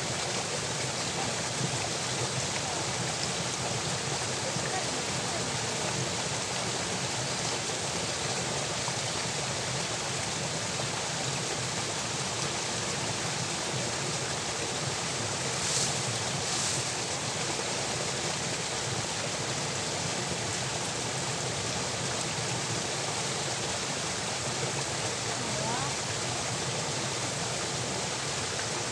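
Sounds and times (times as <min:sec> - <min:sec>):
water rushing through channel: 0:00.0 - 0:28.9.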